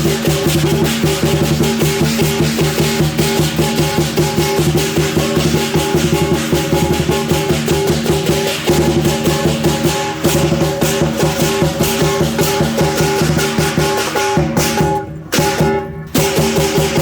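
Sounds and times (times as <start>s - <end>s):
big drum beating: 0.0s - 17.0s
clashing cymbals: 0.0s - 17.0s
ringing gongs: 0.0s - 17.0s.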